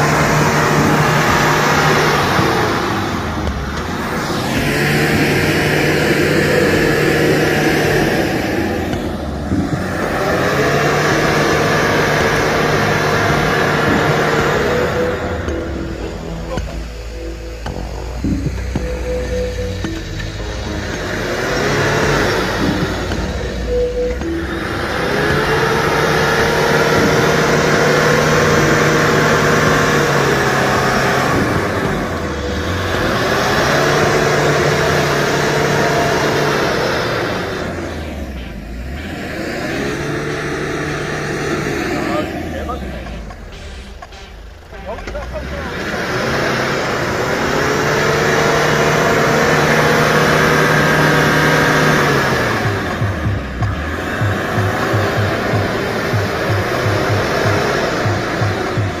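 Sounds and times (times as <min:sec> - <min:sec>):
engine revving under load: 0:00.0 - 0:59.0.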